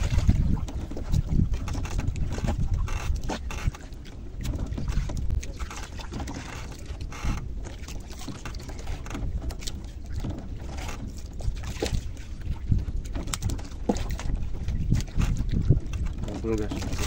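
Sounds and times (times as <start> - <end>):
water against a boat: 0.0 - 17.0
wind rumbling on microphone: 0.0 - 17.0.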